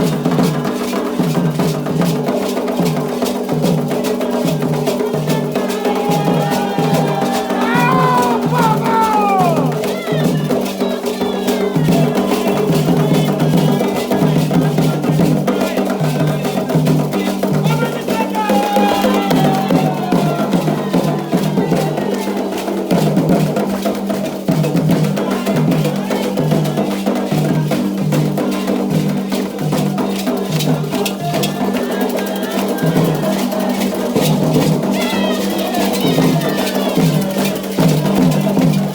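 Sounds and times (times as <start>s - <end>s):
hand drums beating: 0.0s - 38.9s
voices singing: 0.0s - 38.9s.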